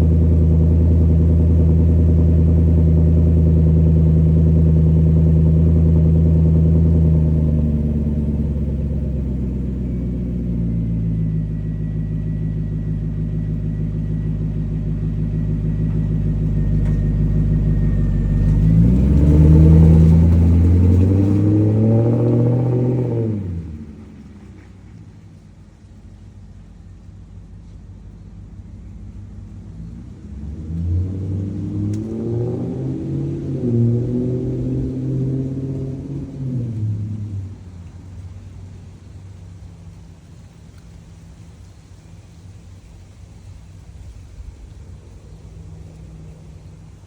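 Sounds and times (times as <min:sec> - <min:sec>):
car engine idling: 0:00.0 - 0:47.0
car engine revving: 0:00.0 - 0:47.0.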